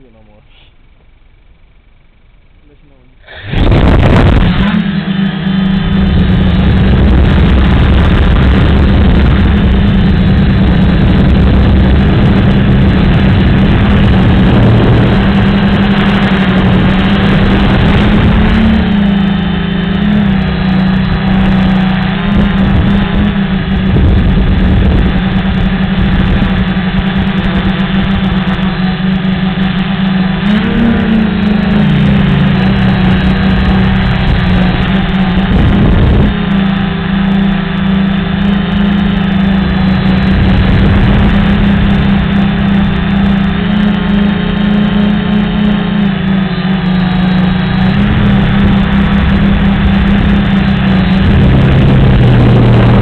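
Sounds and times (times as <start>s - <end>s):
quadcopter motors droning: 0.0s - 53.0s.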